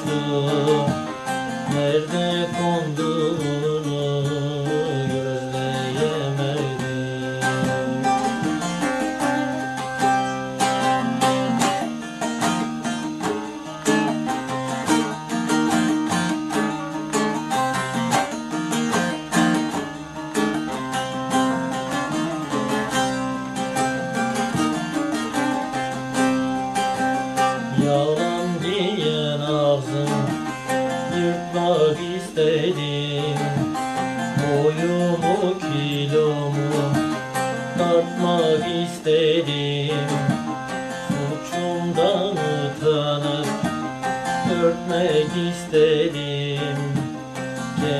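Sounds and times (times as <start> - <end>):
long-necked lute strummed fast: 0.0 - 47.9
man singing a folk song: 0.0 - 47.9.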